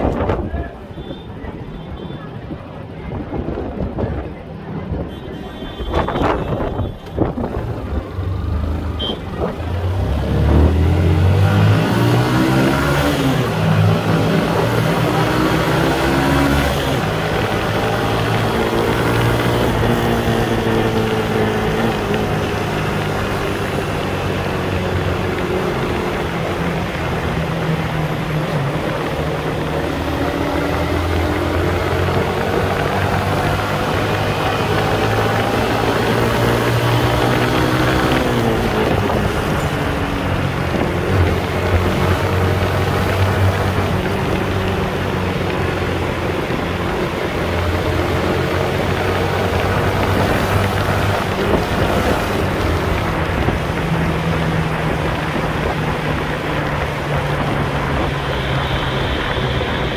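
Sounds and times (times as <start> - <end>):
road and wind noise: 0.0 - 59.9
motorcycle engine running: 6.5 - 59.9.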